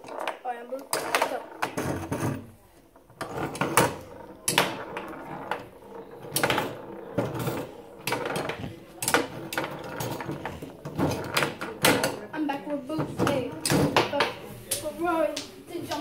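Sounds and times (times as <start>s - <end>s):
plastic foosball clacks and knocks: 0.0s - 12.3s, 13.0s - 14.8s.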